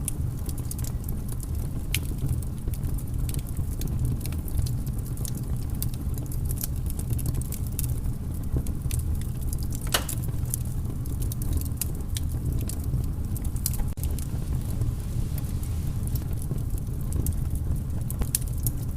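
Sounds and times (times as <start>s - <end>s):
fire pops and snaps: 0.0s - 18.9s
wood fire crackling: 0.0s - 18.9s.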